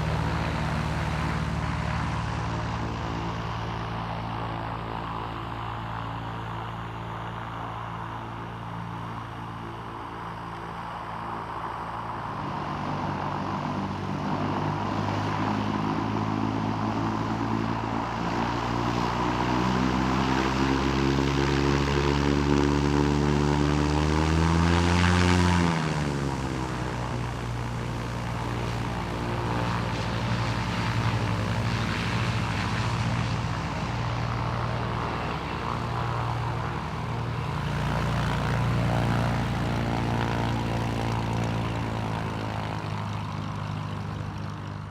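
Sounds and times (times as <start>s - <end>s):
propeller aircraft engine passing: 0.0s - 44.9s.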